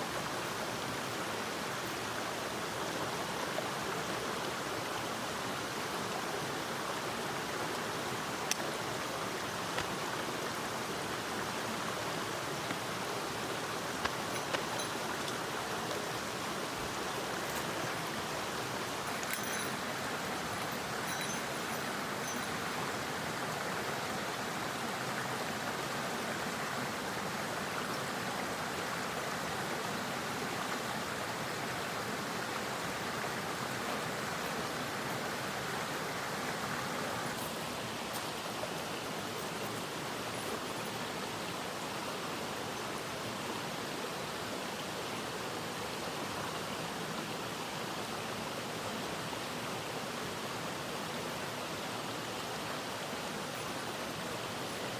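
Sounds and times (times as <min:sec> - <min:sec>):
mountain stream rushing: 0:00.0 - 0:54.9.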